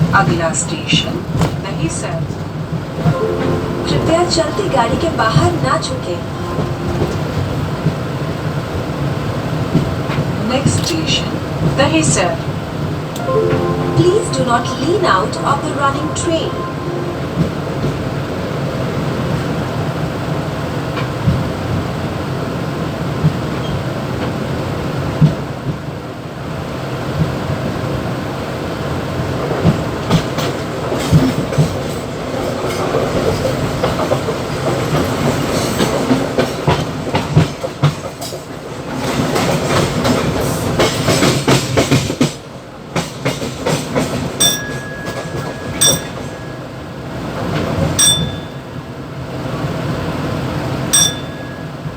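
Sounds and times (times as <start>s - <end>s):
electric train hum: 0.0s - 51.9s.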